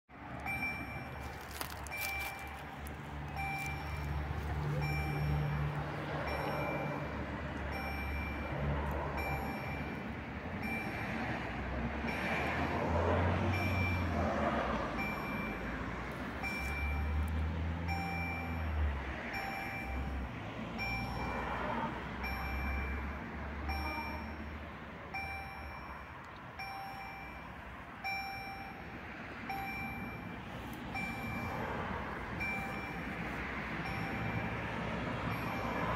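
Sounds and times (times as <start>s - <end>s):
road vehicles passing: 0.1s - 35.9s
level-crossing bell dinging: 0.4s - 11.2s, 17.9s - 35.9s.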